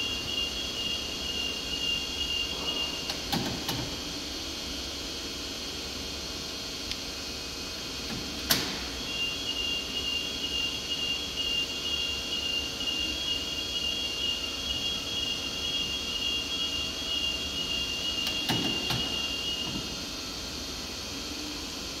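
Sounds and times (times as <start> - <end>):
running hum: 0.0 - 22.0.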